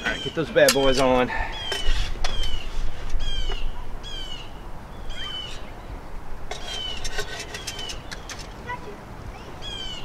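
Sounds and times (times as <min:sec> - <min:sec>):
small bird chirping: 0:00.0 - 0:06.0, 0:06.6 - 0:10.0.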